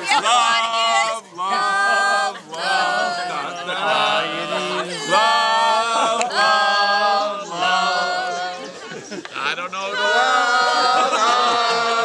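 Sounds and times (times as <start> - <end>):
men singing a cappella: 0.1 - 12.0.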